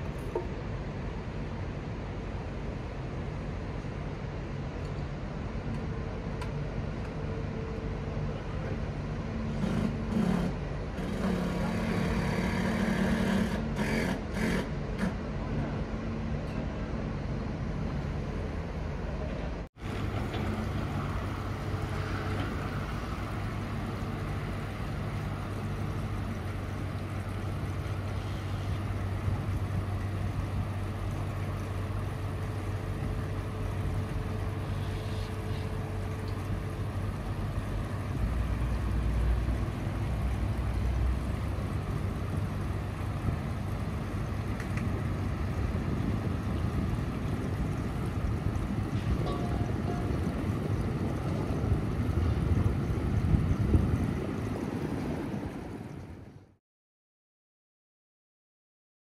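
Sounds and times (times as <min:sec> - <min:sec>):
constant rushing noise: 0:00.0 - 0:56.6
engine humming: 0:00.0 - 0:56.6.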